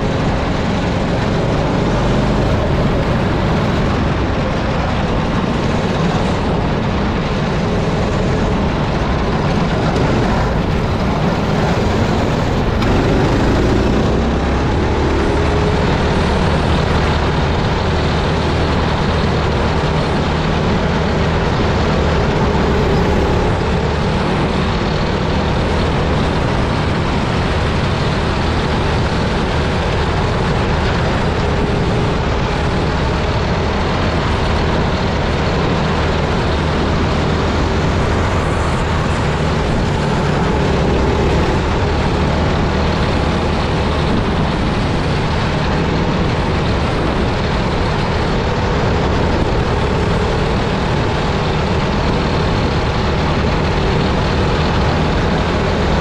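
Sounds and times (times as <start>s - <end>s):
kart engine running: 0.0s - 56.0s
wind rush on microphone: 0.0s - 56.0s.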